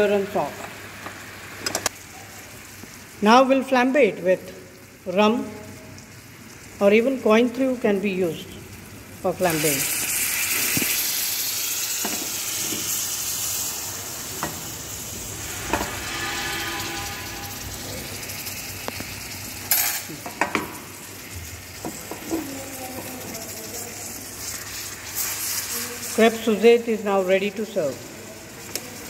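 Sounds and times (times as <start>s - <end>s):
sauce sizzling in a frying pan: 0.0s - 29.0s.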